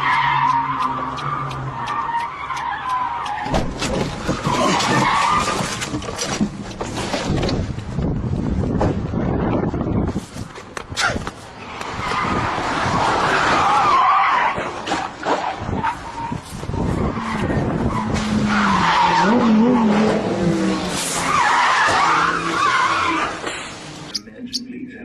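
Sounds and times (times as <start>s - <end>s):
car tyres skidding and squealing: 0.0s - 7.4s, 10.4s - 24.2s.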